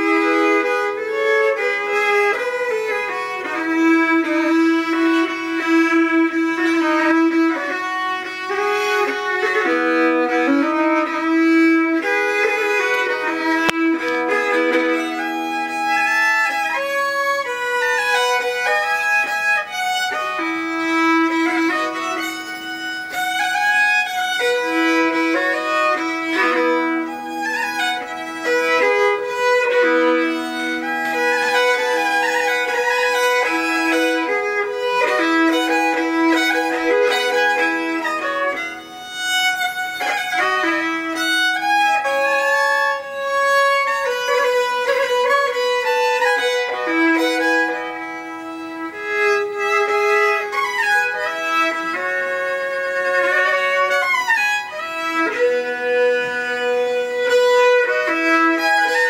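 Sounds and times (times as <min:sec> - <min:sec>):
solo fiddle folk tune: 0:00.0 - 0:59.0.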